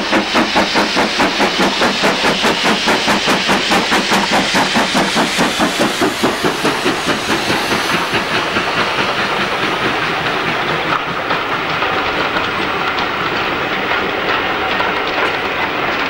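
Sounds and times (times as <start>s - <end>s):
steam locomotive exhaust beats: 0.0s - 16.0s
wheels clacking over rail joints: 0.0s - 16.0s.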